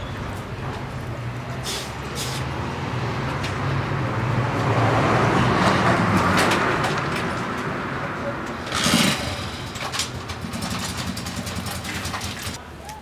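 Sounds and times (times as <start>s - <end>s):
vehicle passing: 0.0s - 12.6s.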